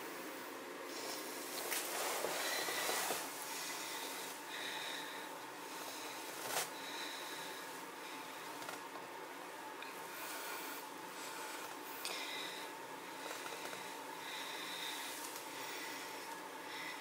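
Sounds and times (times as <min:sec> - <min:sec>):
person breathing hard: 0:00.2 - 0:08.6, 0:09.9 - 0:17.0.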